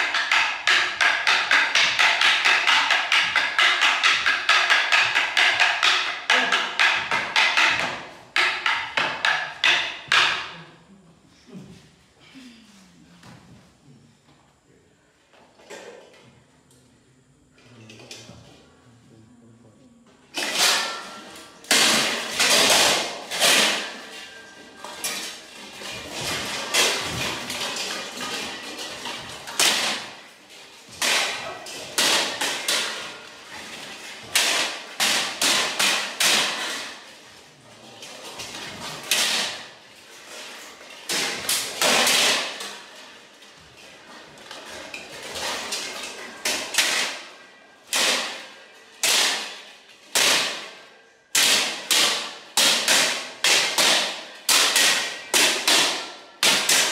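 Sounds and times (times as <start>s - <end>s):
swords clanging on metal shields: 0.0s - 10.6s, 20.4s - 37.4s, 38.0s - 56.9s.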